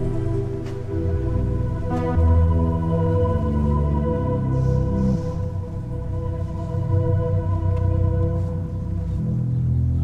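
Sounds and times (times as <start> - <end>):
slow sustained music chords: 0.0 - 10.0.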